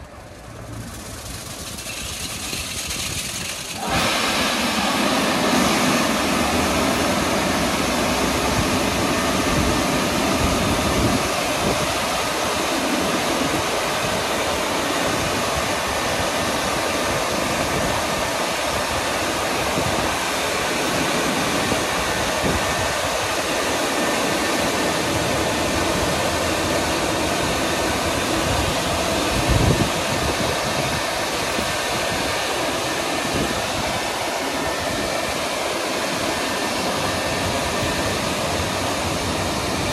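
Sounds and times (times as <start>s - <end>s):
car wash drying fans: 0.0s - 39.9s.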